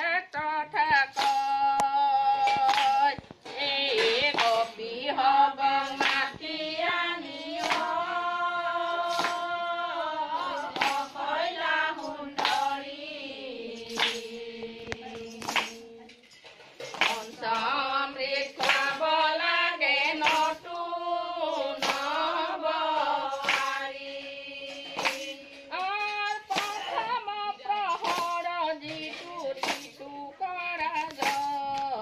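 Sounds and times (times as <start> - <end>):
women singing unaccompanied: 0.0 - 32.0
hand claps: 0.2 - 32.0.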